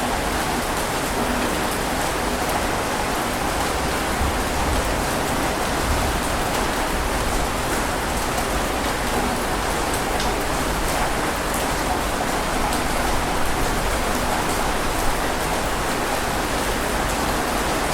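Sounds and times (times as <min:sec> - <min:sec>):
heavy rain falling: 0:00.0 - 0:17.9.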